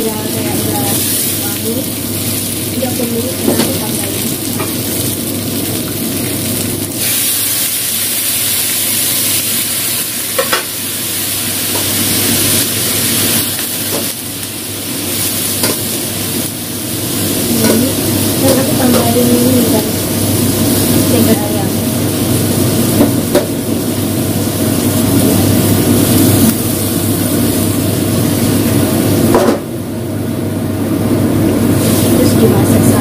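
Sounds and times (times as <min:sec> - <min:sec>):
fish sizzling in hot oil: 0:00.0 - 0:29.9, 0:31.6 - 0:33.0.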